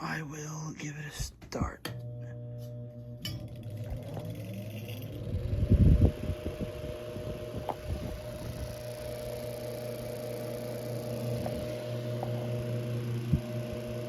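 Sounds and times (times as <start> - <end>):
electric fan motor humming: 0.0 - 14.0.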